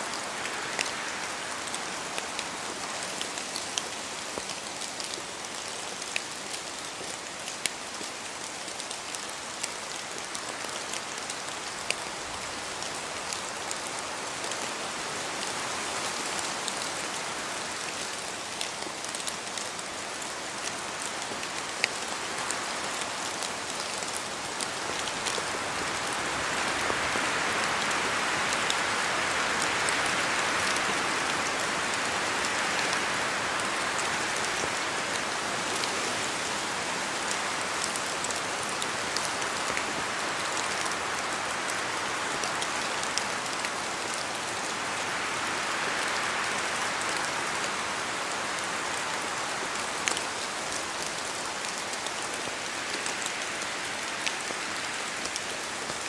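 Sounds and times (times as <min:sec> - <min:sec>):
rain falling in forest: 0:00.0 - 0:56.0
sharp ticks of raindrops: 0:00.0 - 0:56.0.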